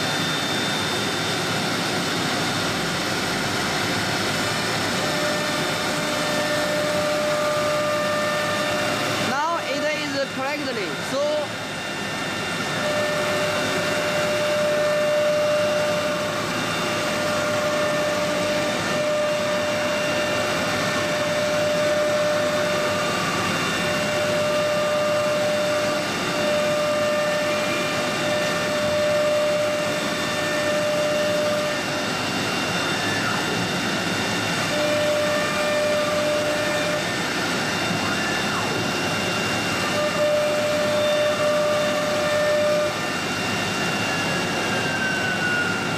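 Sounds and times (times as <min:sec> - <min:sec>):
wood cutting noise: 0:00.0 - 0:45.9
wood router spindle whine: 0:00.0 - 0:45.9.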